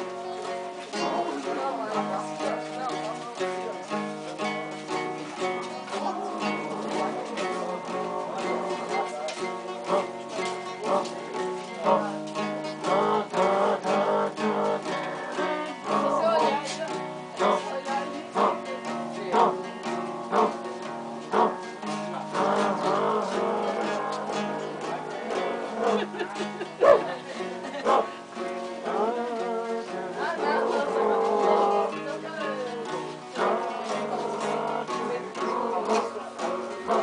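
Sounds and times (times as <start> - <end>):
guitar plucked and strummed: 0.0 - 37.0.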